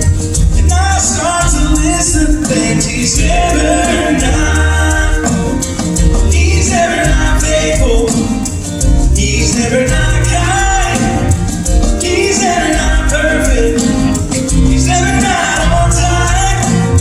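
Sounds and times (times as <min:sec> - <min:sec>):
bass: 0:00.0 - 0:17.0
person singing: 0:00.0 - 0:17.0
shaker percussion: 0:00.0 - 0:17.0.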